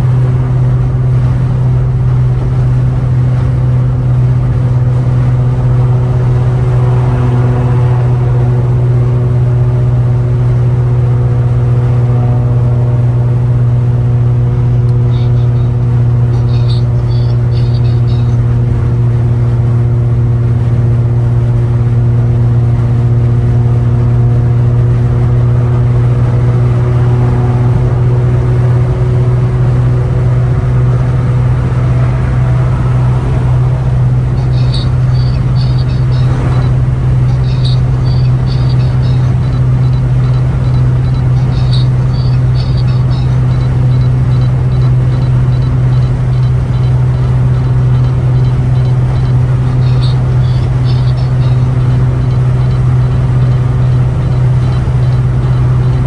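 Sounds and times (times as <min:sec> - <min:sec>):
car exhaust droning: 0:00.0 - 0:56.0.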